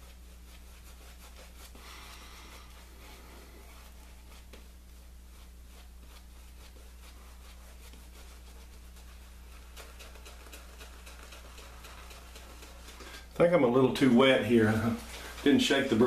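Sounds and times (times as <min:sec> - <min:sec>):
faint steady hum: 0:00.0 - 0:16.0
wet brush swishing strokes: 0:00.0 - 0:16.0.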